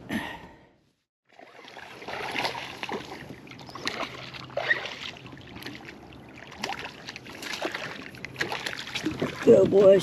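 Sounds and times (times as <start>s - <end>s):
water splashing around kayak: 1.3s - 10.0s.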